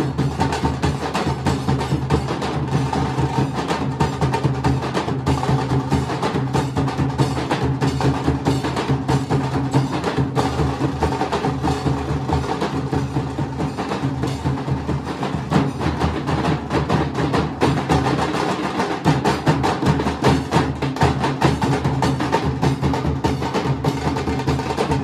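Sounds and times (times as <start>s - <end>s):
barrel drums beaten with sticks: 0.0s - 25.0s.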